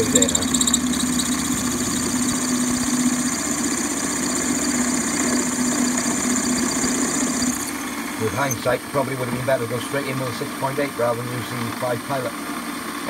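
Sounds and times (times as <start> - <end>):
metal lathe humming with whine: 0.0 - 11.2.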